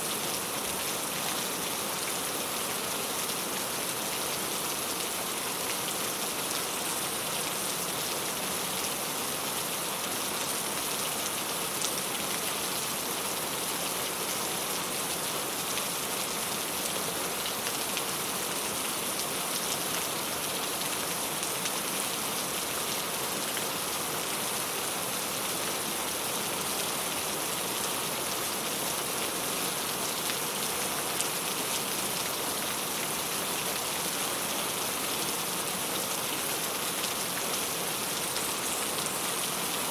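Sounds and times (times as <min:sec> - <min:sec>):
rain on a tile roof: 0:00.0 - 0:39.9.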